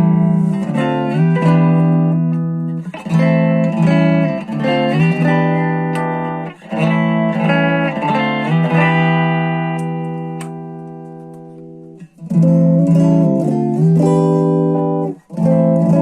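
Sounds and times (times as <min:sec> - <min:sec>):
electric guitar strumming chords: 0:00.0 - 0:16.0.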